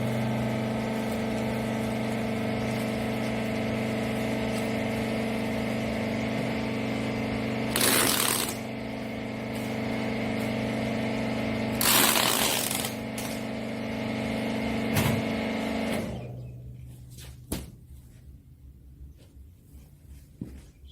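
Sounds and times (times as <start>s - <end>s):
baler motor and pump hum: 0.0s - 20.0s.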